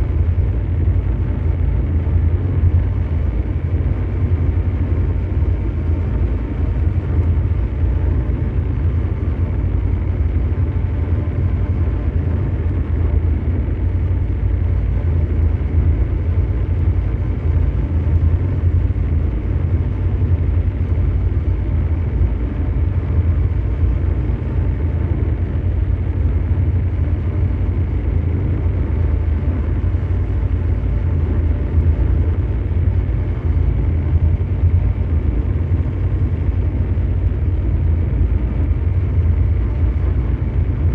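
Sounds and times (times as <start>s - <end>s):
deep engine-like rumble: 0.0s - 40.9s
faint steady hum: 0.0s - 40.9s.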